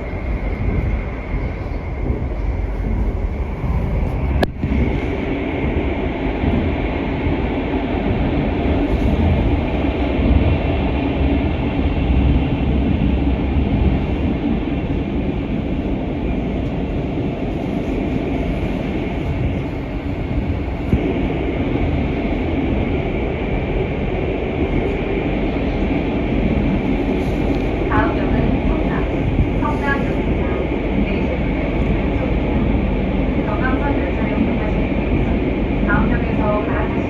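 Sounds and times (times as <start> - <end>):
train rumble inside carriage: 0.0 - 37.0.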